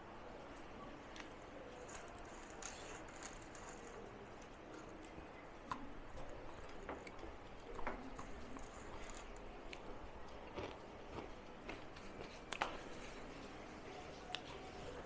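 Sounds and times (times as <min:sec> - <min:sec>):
chewing: 0:01.1 - 0:13.4.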